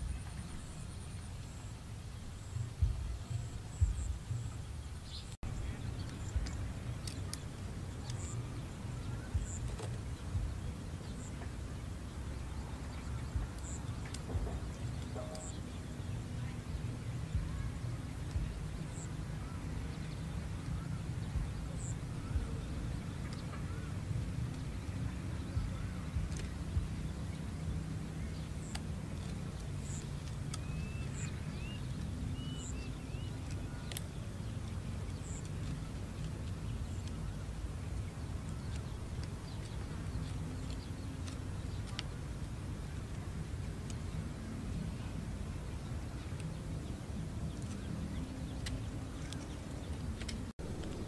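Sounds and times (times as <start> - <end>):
bird chirps: 0.0 - 42.2
wind rumble on microphone: 0.0 - 51.0.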